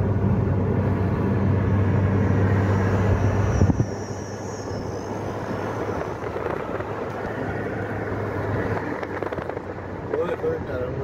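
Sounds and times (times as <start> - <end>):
car engine and road drone: 0.0 - 11.0
road and wind rush: 0.0 - 11.0.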